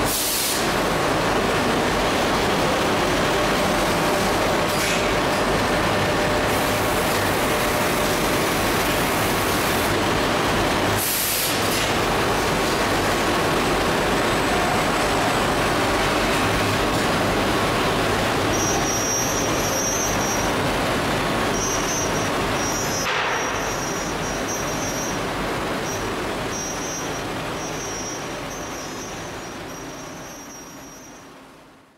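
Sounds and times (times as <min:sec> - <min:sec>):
high machine whine: 0:00.0 - 0:31.5
machining centre running: 0:00.0 - 0:31.9.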